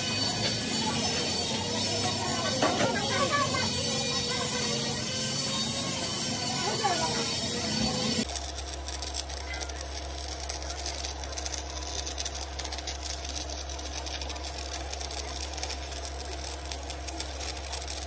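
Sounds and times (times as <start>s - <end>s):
steady low hum: 0.0s - 18.0s
welding arc crackling: 0.0s - 18.0s.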